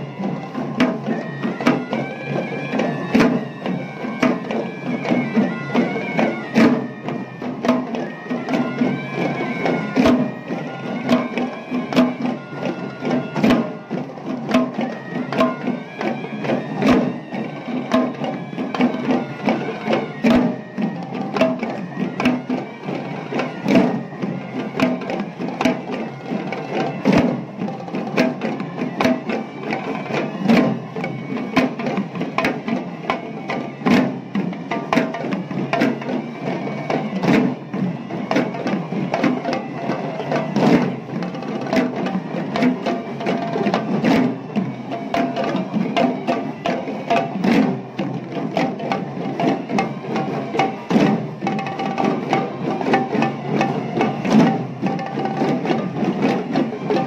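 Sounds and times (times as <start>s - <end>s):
barrel drums playing fast rhythm: 0.0s - 57.0s.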